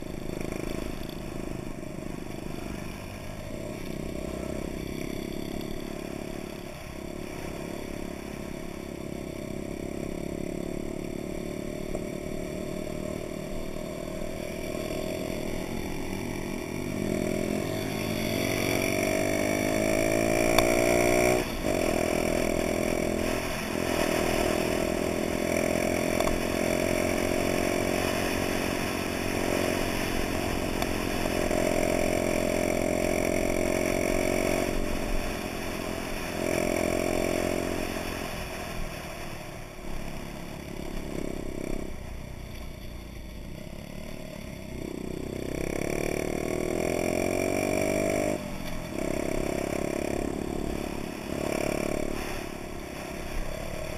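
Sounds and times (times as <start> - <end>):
small motorbike engine running: 0.0 - 53.9.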